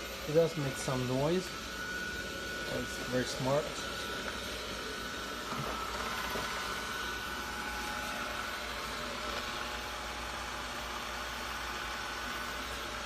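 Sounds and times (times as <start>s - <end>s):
robot vacuum running: 0.0s - 13.0s.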